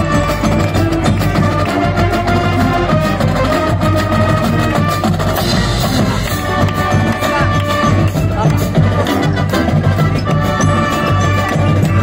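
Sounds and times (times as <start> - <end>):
brass and saxophones holding notes: 0.0 - 12.0
drumline beat: 0.0 - 12.0.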